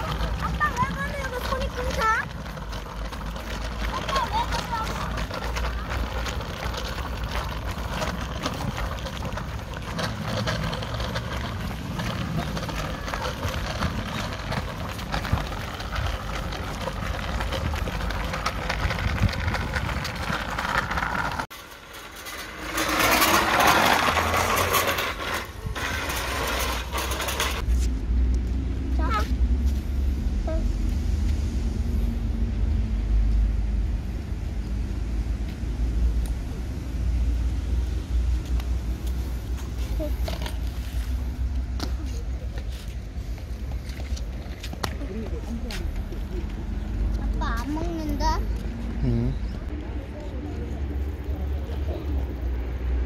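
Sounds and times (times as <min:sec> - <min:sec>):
small wheels rolling on asphalt: 0:00.0 - 0:53.0.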